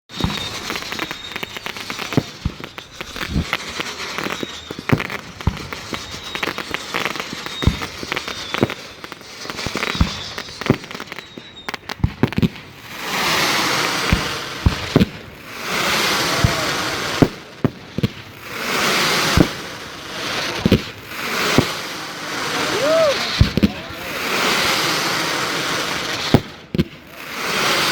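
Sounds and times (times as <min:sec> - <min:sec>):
dense hissing of fireworks: 0:00.1 - 0:27.9
fireworks bangs and booms: 0:00.1 - 0:27.9.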